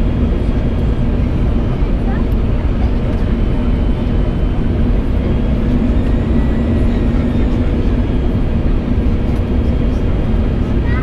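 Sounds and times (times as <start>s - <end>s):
airplane cabin engine rumble: 0.0s - 11.0s
steady low hum: 0.0s - 11.0s.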